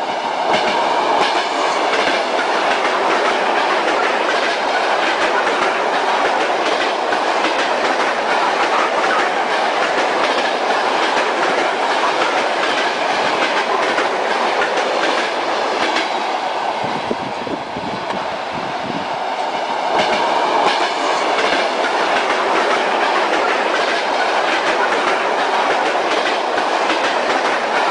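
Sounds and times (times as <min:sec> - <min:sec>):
train wheels clattering on rails: 0:00.0 - 0:17.2, 0:19.2 - 0:27.9.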